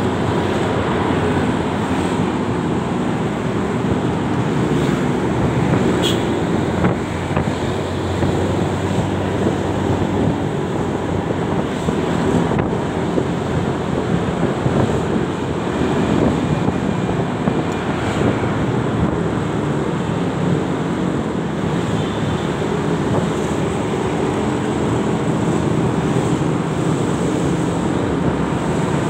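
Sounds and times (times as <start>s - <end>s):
road noise: 0.0s - 29.0s
wind rush on microphone: 0.0s - 29.0s.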